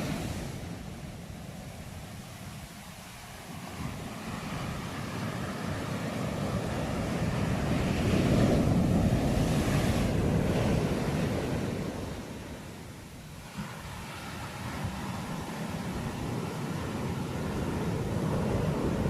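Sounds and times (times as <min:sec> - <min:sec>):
sea waves breaking on shore: 0:00.0 - 0:19.0
wind on microphone: 0:00.0 - 0:19.0.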